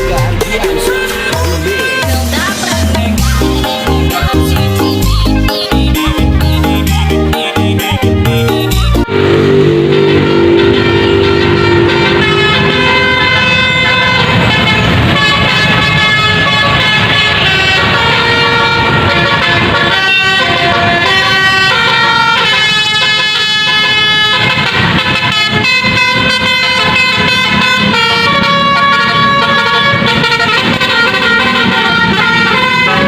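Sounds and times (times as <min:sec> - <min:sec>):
musical vehicle horns playing a tune: 0:00.0 - 0:33.0.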